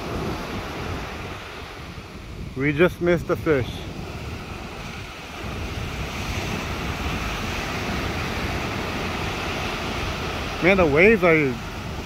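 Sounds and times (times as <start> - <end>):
ocean surf breaking on beach: 0.0 - 12.0
wind buffeting microphone: 0.0 - 12.0.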